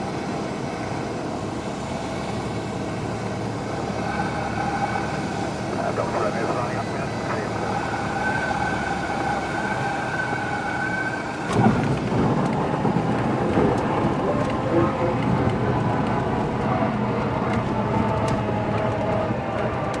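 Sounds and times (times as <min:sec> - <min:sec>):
aircraft engine and airflow: 0:00.0 - 0:20.0
tyres rumbling on runway: 0:00.0 - 0:20.0.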